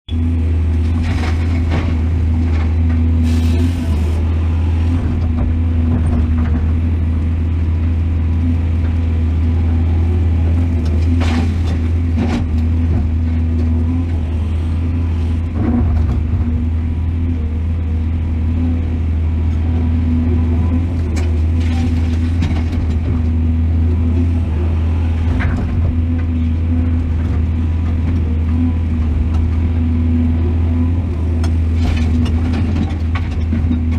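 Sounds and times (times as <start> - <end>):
excavator diesel engine droning: 0.1 - 33.9.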